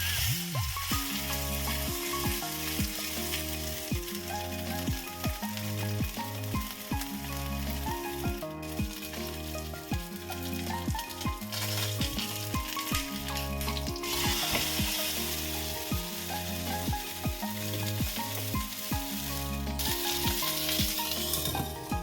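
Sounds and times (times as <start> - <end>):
food sizzling in a pan: 0.0 - 22.0
background music with a beat: 0.2 - 22.0.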